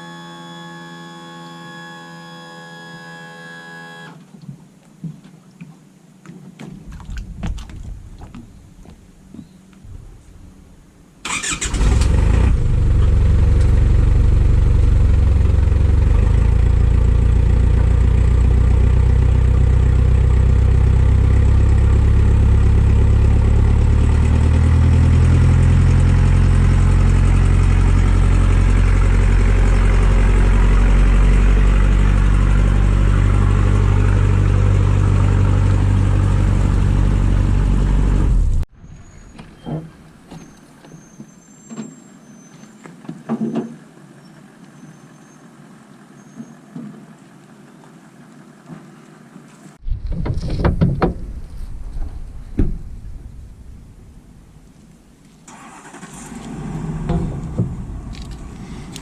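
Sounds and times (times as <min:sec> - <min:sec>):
engine running under load: 0:00.0 - 0:04.2, 0:11.2 - 0:42.5, 0:43.6 - 0:59.0.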